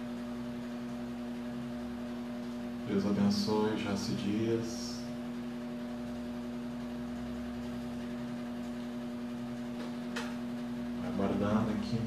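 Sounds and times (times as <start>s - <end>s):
steady appliance hum: 0.0s - 12.0s.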